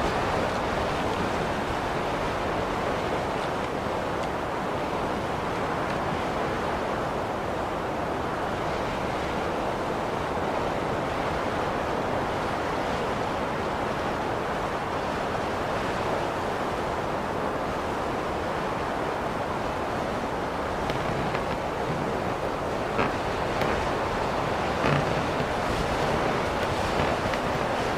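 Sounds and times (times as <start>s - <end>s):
blizzard wind blowing: 0.0s - 27.9s.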